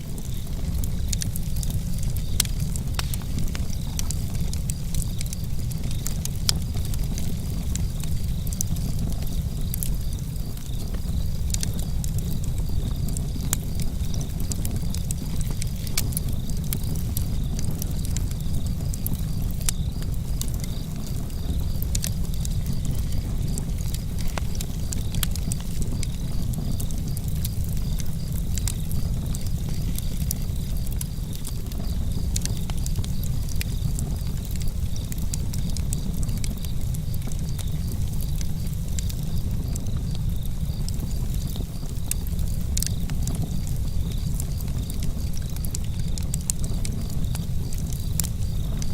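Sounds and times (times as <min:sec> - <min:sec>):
campfire flames rumbling: 0:00.0 - 0:48.9
fire crackles and pops: 0:00.0 - 0:48.9.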